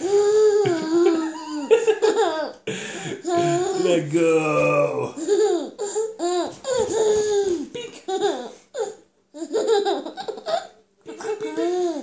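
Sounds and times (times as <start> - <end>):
baby laughing: 0.0 - 4.0, 5.2 - 12.0.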